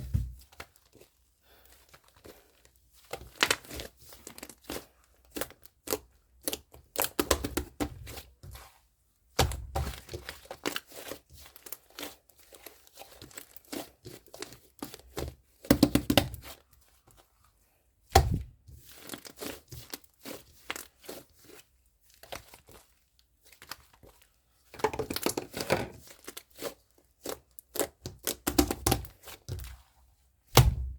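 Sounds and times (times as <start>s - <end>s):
clay slime crackling and popping: 1.7s - 17.3s, 18.0s - 30.9s.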